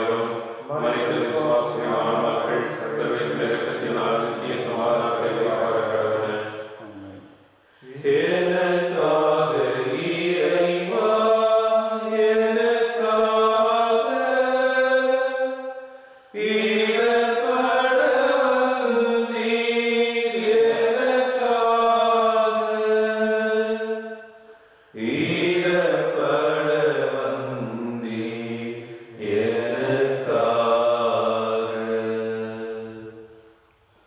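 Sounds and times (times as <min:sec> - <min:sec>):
slow devotional chant: 0:00.0 - 0:34.0.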